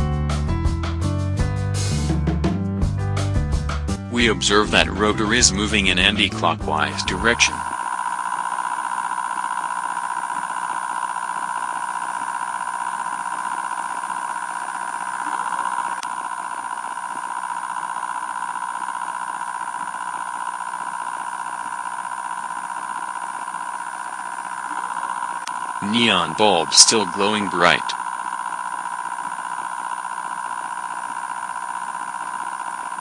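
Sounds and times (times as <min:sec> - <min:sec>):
high-pitched motor whine: 0:04.2 - 0:33.0.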